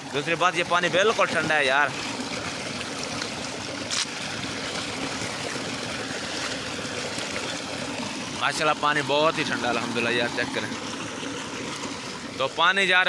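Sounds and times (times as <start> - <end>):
water gushing from pipe into channel: 0.0 - 13.0.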